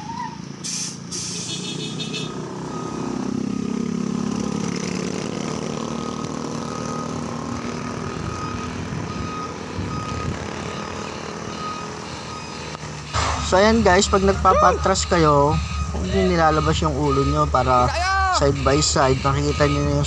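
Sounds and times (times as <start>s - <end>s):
diesel truck engine rumbling: 0.0s - 20.0s
reversing alarm beeping: 1.8s - 4.1s, 5.8s - 20.0s.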